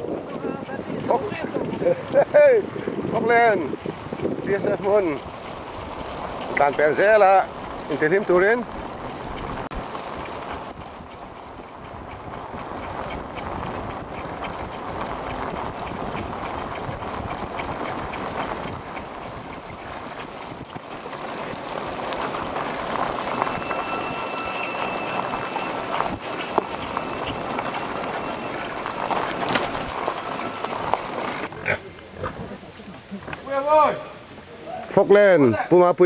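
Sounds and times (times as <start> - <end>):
wind noise on microphone: 0.0 - 32.6
motorcycle engines: 0.0 - 33.5.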